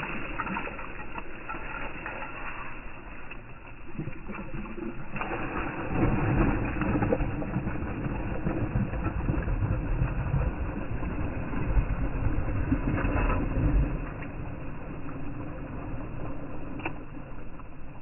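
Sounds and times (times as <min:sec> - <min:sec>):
cast net splashing on water: 0:00.0 - 0:17.4
steady low rumble: 0:00.0 - 0:18.0.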